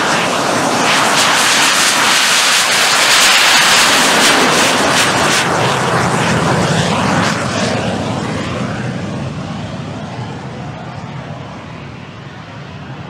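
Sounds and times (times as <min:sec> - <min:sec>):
jet engine roaring past: 0:00.0 - 0:13.0.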